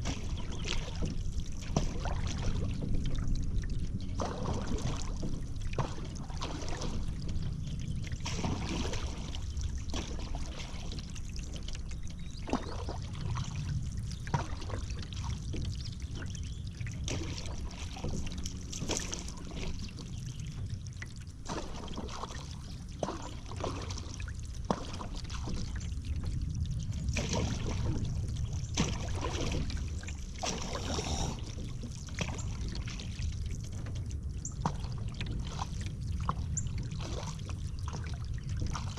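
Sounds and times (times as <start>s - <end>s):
low rumble: 0.0s - 38.9s
paddle splashing in water: 0.0s - 38.9s
water trickling off paddle: 0.0s - 38.9s.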